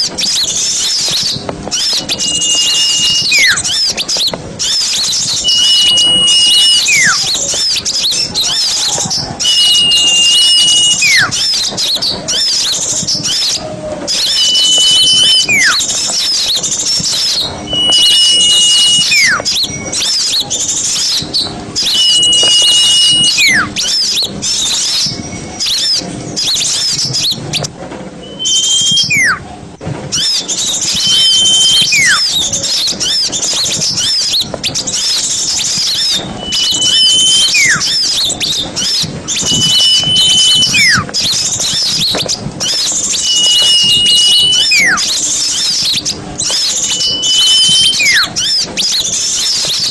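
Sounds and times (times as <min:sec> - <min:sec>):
held and falling whistle: 0:00.0 - 0:29.5, 0:30.1 - 0:49.9
small birds chattering: 0:00.0 - 0:49.9.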